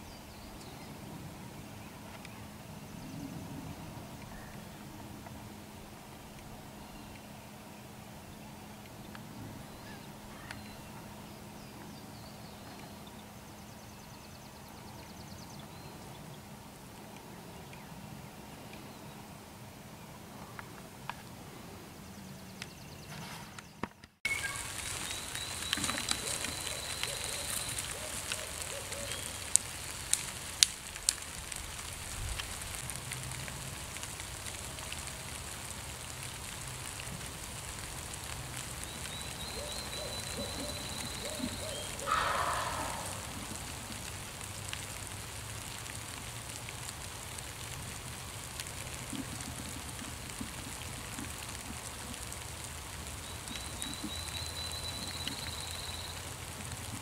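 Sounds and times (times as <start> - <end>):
rain pattering on leaf litter: 0.0 - 21.4, 24.3 - 57.0.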